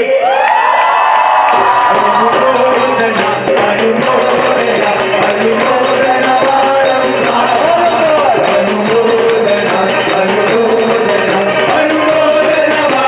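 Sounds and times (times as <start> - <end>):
crowd clapping along: 0.2 - 13.0
jingling percussion: 0.8 - 13.0
keyboard accompaniment: 1.1 - 13.0
hand drums: 1.2 - 13.0
young men singing into microphones: 1.5 - 13.0.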